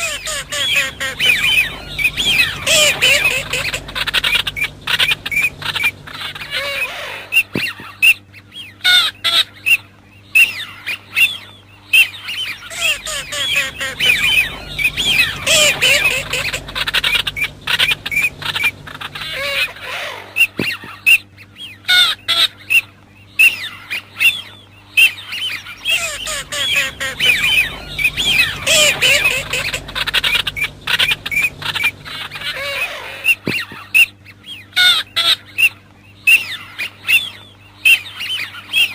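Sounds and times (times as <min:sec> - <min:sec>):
flock of ducks calling: 0:00.0 - 0:08.2, 0:12.0 - 0:21.2, 0:21.8 - 0:38.9
steady low hum: 0:00.0 - 0:21.9, 0:22.6 - 0:38.7.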